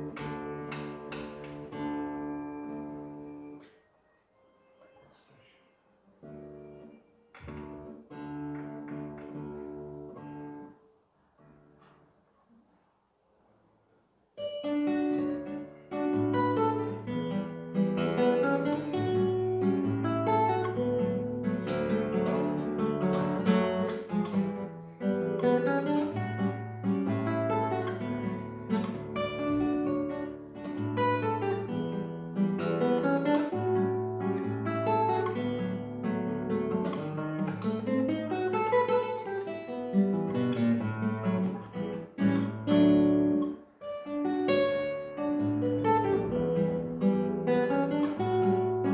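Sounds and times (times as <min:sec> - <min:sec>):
acoustic guitar playing: 0:00.0 - 0:12.4, 0:14.4 - 0:48.9.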